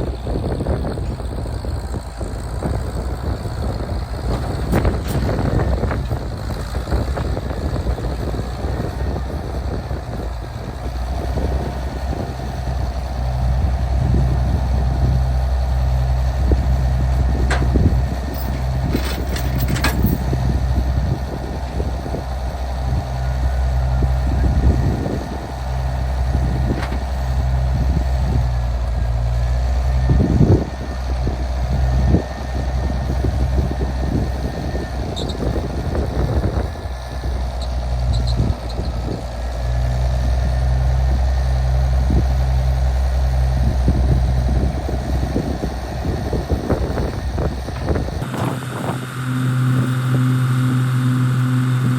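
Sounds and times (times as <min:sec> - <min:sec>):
vehicle engine running low: 0:00.0 - 0:51.9.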